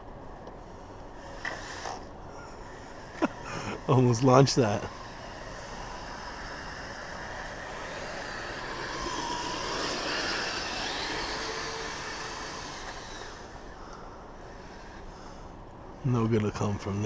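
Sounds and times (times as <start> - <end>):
toy snowcat motor and tracks in snow: 0.0 - 17.0.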